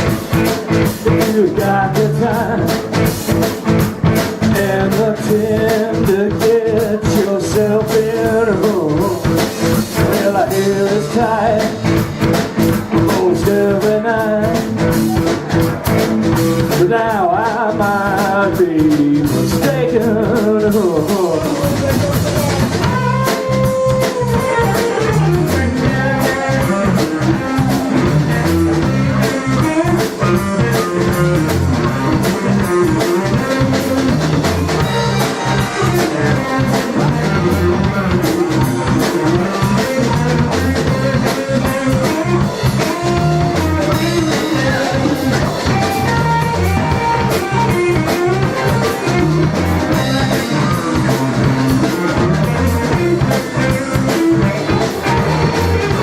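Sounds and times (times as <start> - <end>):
bass guitar: 0.0 - 56.0
drum kit steady beat: 0.0 - 56.0
electric lead guitar: 0.0 - 56.0.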